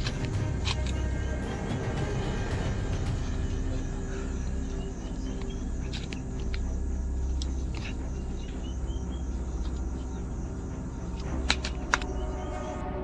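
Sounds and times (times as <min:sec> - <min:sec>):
low droning music: 0:00.0 - 0:13.0.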